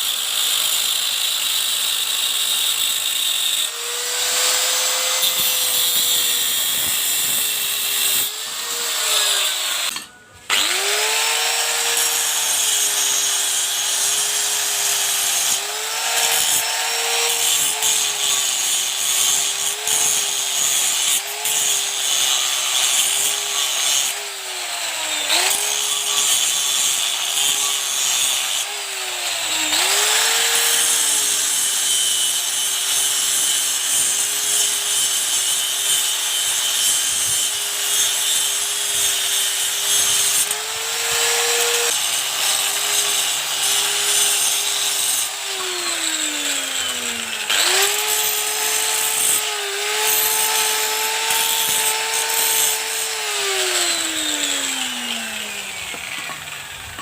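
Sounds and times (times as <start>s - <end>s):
power tool motor whine: 3.0s - 57.0s.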